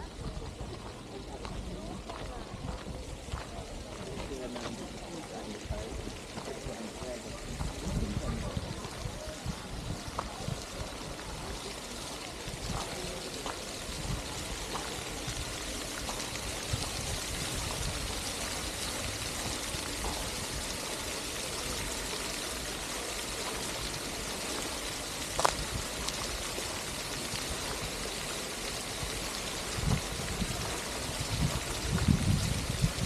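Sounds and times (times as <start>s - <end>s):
fountain water splashing: 0.0s - 33.0s.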